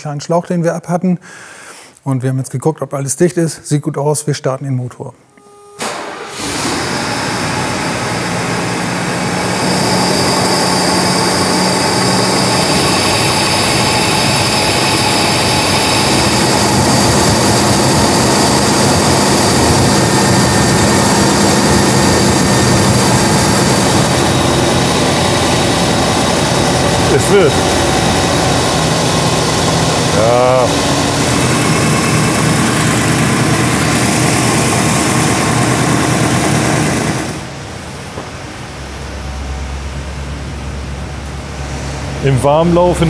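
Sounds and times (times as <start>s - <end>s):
car engine idling: 5.9s - 43.0s.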